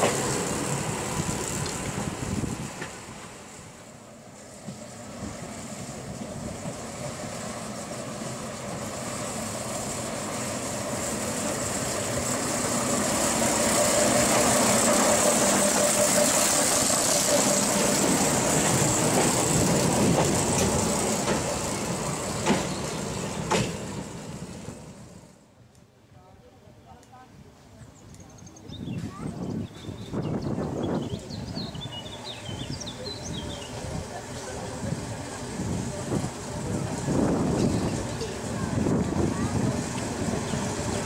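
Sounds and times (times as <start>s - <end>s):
diesel locomotive engine passing: 0.0s - 25.6s, 27.9s - 41.0s.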